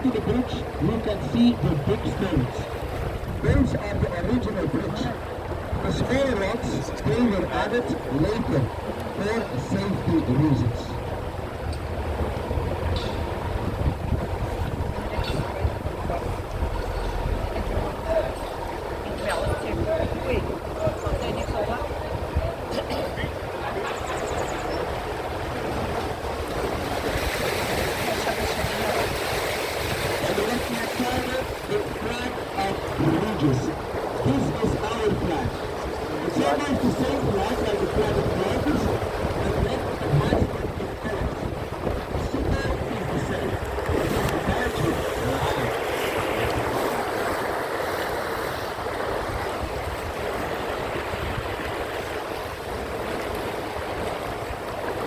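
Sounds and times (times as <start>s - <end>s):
rushing water: 0.0s - 55.0s
wind: 0.0s - 55.0s.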